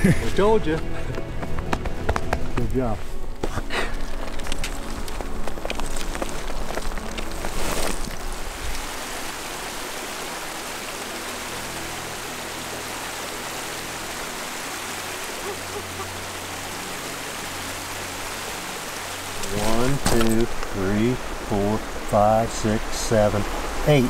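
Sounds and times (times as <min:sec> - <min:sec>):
creek running over rocks: 0:00.0 - 0:24.0.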